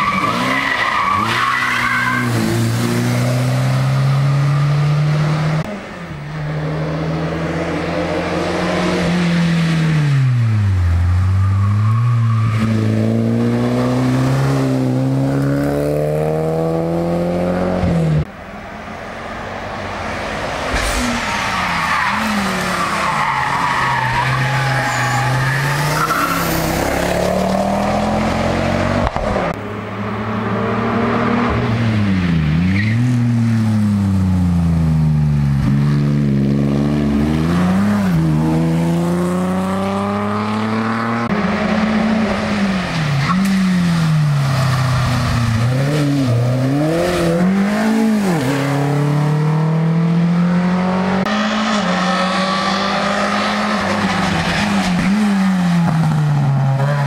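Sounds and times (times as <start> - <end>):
racing car engines revving: 0.0 - 57.0.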